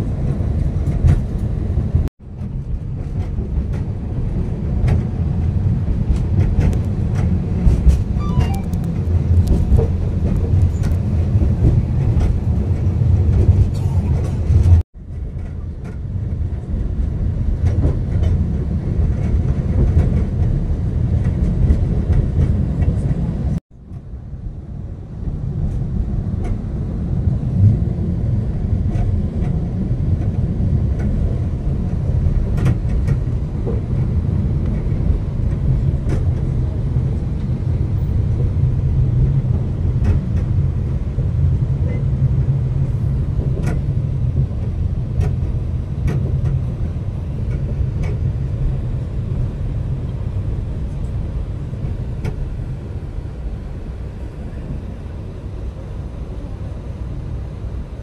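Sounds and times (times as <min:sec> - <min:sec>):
train carriage rumbling on track: 0:00.0 - 0:58.0.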